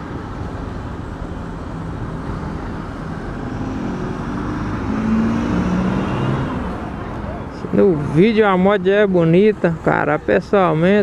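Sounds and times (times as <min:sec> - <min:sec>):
low drone of traffic: 0:00.0 - 0:11.0
road and wind noise: 0:00.0 - 0:11.0.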